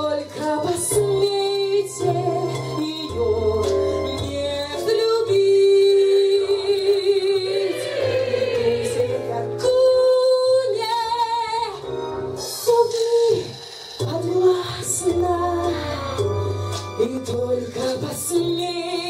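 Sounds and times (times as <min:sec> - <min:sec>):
woman singing into a microphone: 0:00.0 - 0:16.4, 0:17.0 - 0:19.0
low musical backing: 0:00.0 - 0:19.0.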